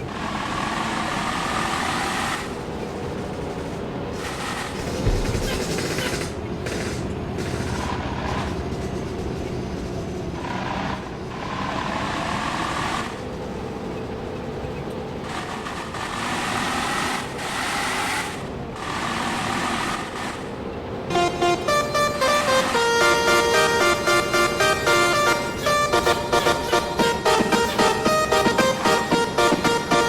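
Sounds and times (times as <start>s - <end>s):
bus engine revving: 0.0s - 9.4s, 10.3s - 30.0s.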